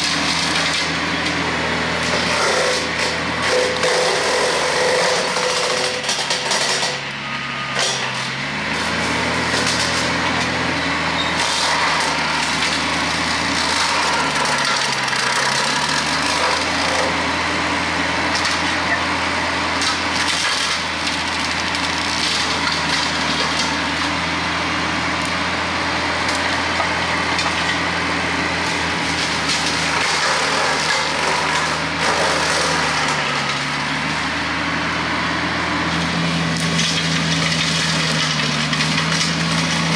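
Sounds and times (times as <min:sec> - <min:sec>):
cutter blade shredding branches: 0:00.0 - 0:39.9
tractor diesel engine running: 0:00.0 - 0:39.9.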